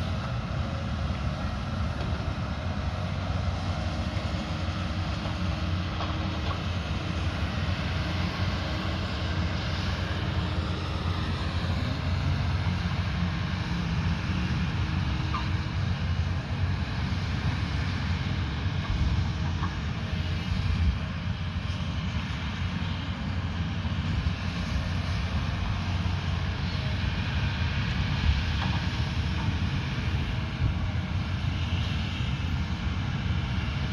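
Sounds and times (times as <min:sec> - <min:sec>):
diesel engine droning: 0:00.0 - 0:33.9.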